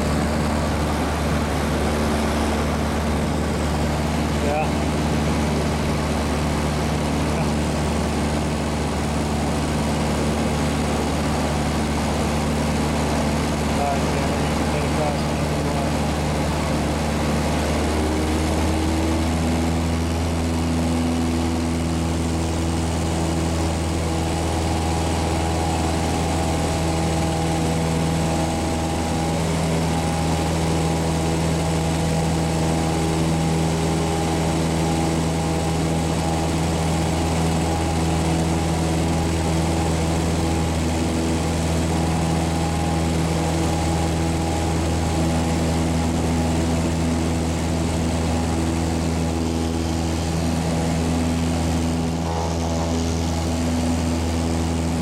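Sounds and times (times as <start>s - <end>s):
airplane engine drone in cabin: 0.0s - 55.0s.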